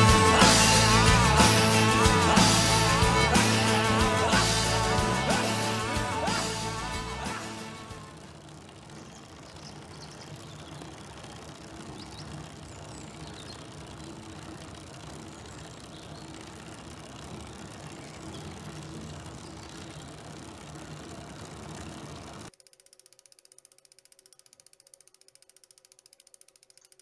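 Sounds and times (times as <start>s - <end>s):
car engine hum: 0.0s - 22.5s.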